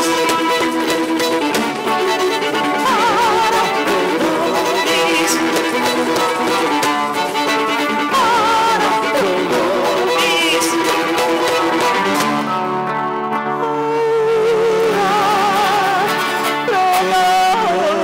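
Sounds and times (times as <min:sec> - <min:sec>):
violin melody: 0:00.0 - 0:18.0.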